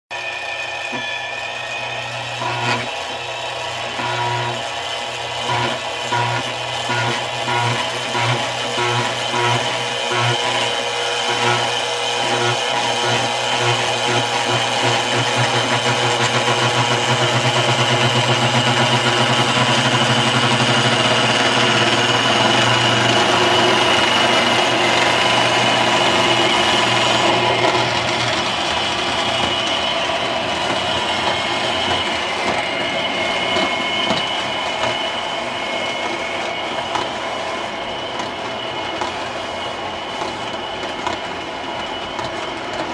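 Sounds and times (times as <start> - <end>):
model train motor hum and whine: 0.1 - 42.9
model train wheels rumbling: 0.2 - 42.9.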